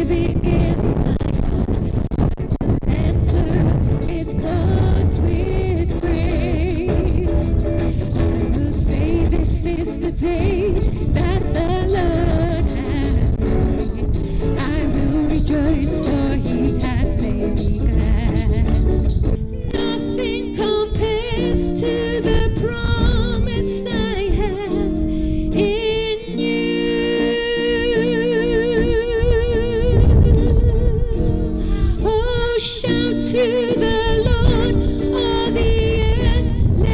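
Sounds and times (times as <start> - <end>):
low wind rumble on microphone: 0.0 - 26.3, 28.5 - 36.9
instrumental accompaniment: 0.0 - 36.9
person singing with vibrato: 0.0 - 36.9.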